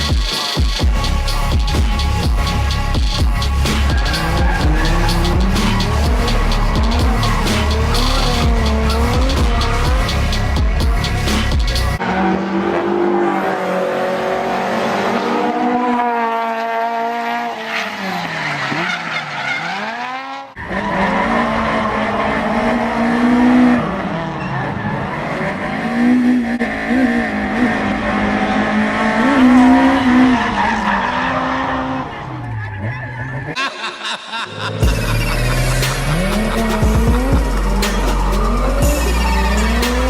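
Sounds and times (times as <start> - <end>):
car engine revving: 0.8 - 33.6, 34.8 - 40.0
tyres squealing and skidding: 1.0 - 14.7, 17.4 - 33.6, 34.3 - 40.0.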